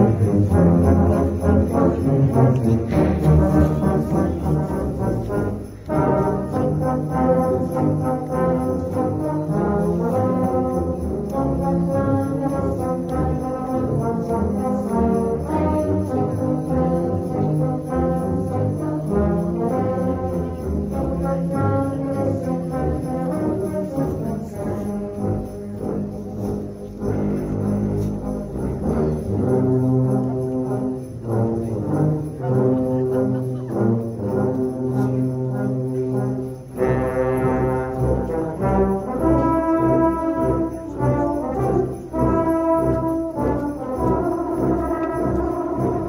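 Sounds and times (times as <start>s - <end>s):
tubas and euphoniums playing carol: 0.0s - 46.0s.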